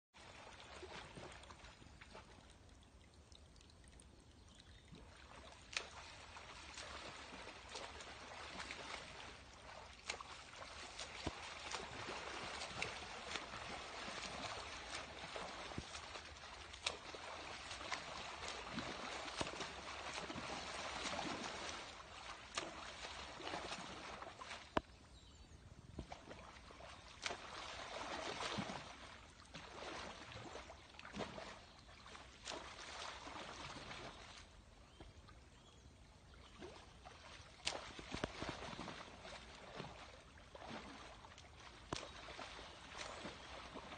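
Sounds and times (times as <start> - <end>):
river water splashing: 0.2 - 25.1, 26.0 - 43.9.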